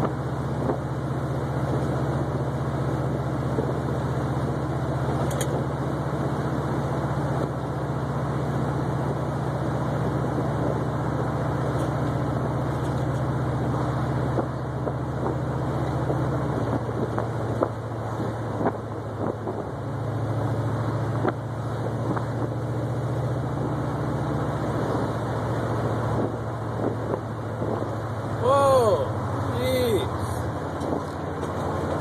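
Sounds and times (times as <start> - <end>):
car engine and exhaust: 0.0 - 32.0.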